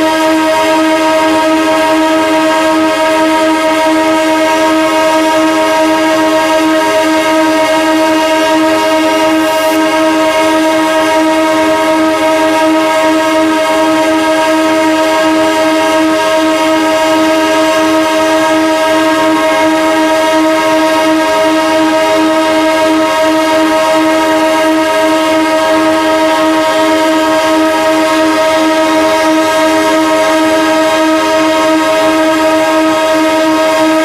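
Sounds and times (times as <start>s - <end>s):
locomotive air horn blast: 0.0s - 34.0s.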